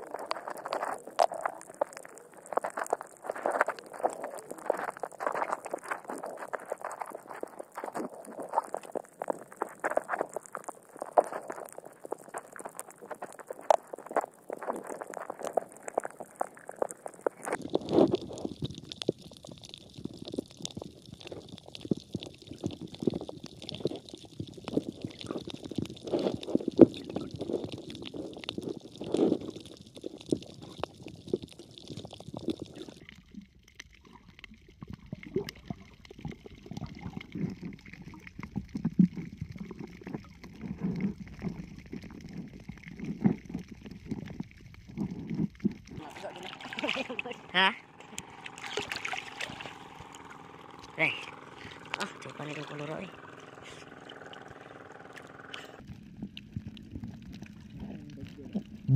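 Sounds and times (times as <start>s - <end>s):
underwater clicks: 0.0s - 58.9s
underwater gurgling and sloshing: 0.0s - 58.9s.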